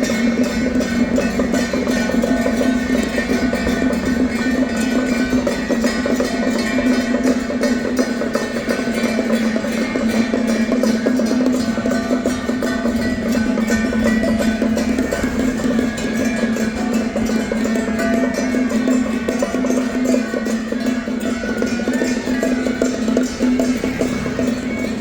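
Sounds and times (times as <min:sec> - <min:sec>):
fast percussion clattering: 0:00.0 - 0:25.0.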